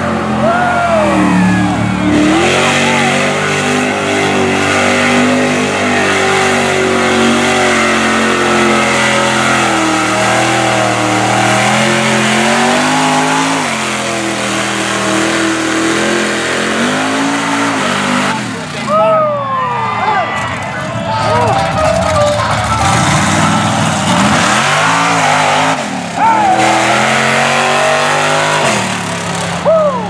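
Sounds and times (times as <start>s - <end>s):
truck engine at high revs: 0.0s - 19.0s, 20.4s - 30.0s.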